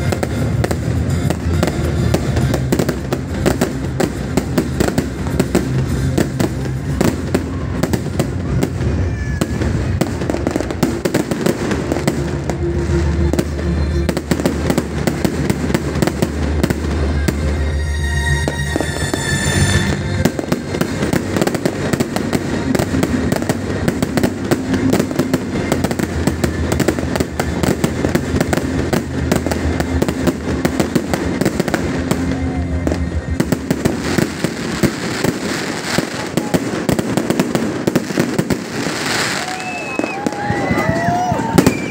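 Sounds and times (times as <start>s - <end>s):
firework whistle: 0.0s - 41.9s
fireworks bangs and crackles: 0.0s - 41.9s.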